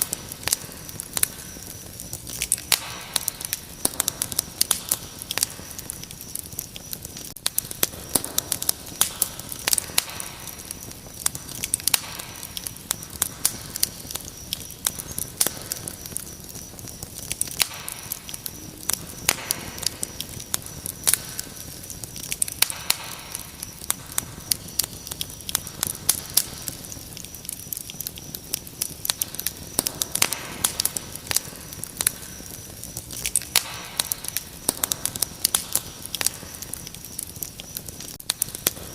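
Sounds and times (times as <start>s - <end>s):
cricket trill: 0.0s - 38.9s
wood fire crackling: 0.0s - 38.9s.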